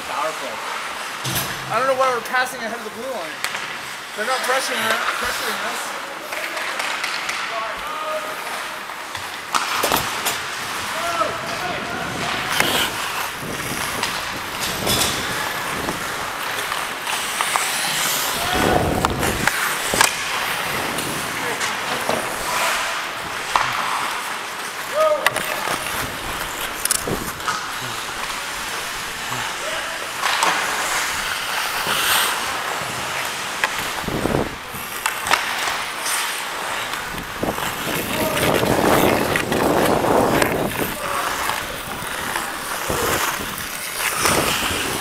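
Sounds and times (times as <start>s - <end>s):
hockey sticks and puck clacking: 0.0s - 45.0s
skate blades scraping ice: 0.0s - 45.0s.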